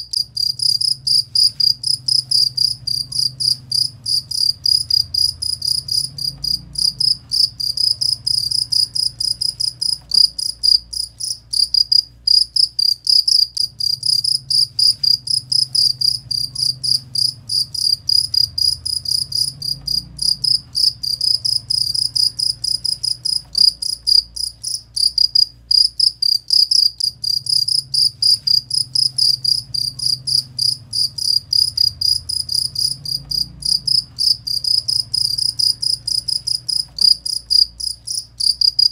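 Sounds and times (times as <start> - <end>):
cricket chirping: 0.0 - 38.9
faint low hum: 0.0 - 38.9.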